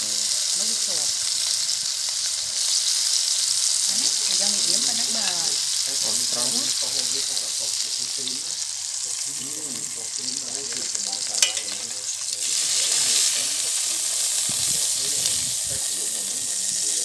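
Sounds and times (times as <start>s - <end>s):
steaks sizzling in pan: 0.0s - 17.0s.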